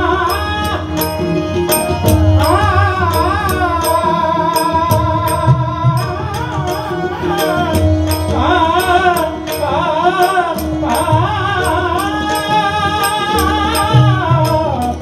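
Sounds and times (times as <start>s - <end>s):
harmonium: 0.0s - 15.0s
tabla strokes: 0.0s - 15.0s
man singing ornamented melody: 2.4s - 15.0s.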